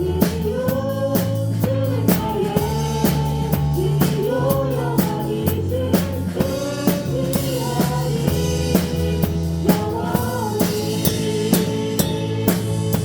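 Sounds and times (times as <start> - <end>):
drum kit beat: 0.0 - 13.0
live praise band music: 0.0 - 13.0.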